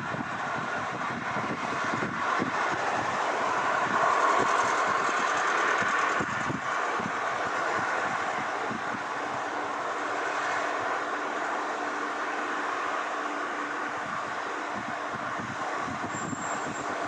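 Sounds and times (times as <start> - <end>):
jet engines on approach: 0.0 - 17.0.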